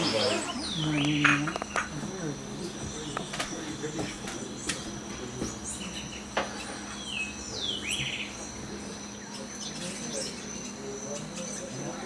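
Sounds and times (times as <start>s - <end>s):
bird calling: 0.0s - 12.0s
high insect whine: 0.0s - 12.0s.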